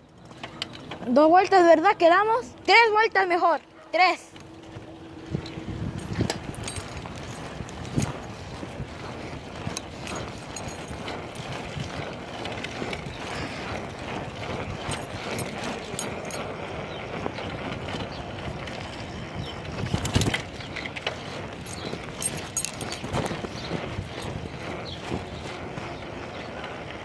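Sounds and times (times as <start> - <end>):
bicycle rattling and clicking: 0.0 - 27.0.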